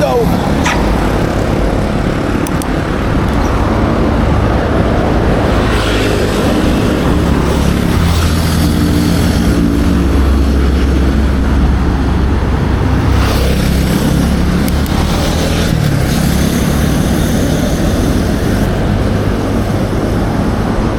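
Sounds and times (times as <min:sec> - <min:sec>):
low traffic rumble: 0:00.0 - 0:20.9
motorcycles and cars passing: 0:00.0 - 0:20.9.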